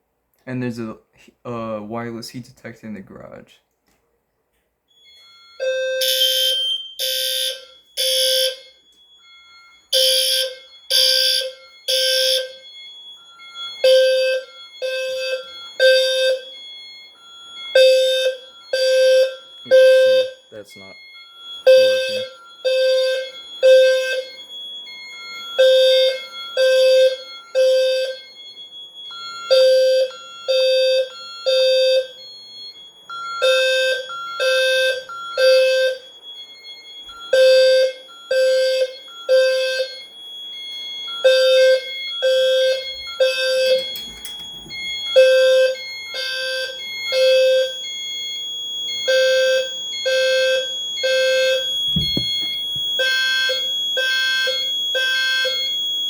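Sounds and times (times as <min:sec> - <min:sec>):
fire alarm horn blasts: 0:04.9 - 0:56.0.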